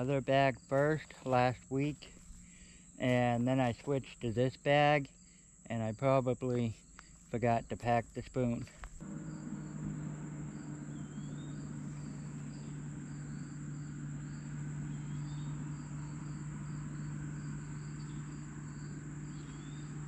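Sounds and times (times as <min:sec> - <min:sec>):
cricket chirping: 0:00.0 - 0:20.0
insects droning: 0:00.0 - 0:20.0
low steady hum: 0:00.0 - 0:20.0.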